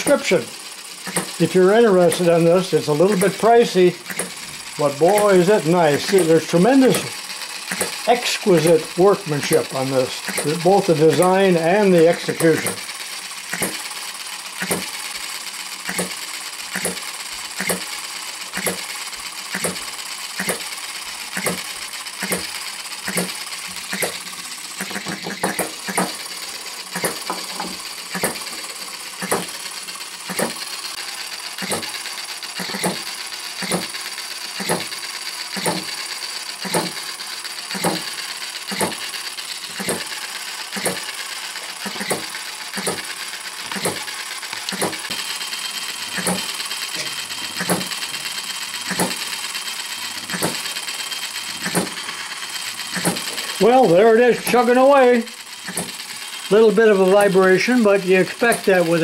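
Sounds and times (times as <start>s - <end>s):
light mechanical clatter: 0.0s - 57.8s
model engine beating: 0.0s - 59.0s.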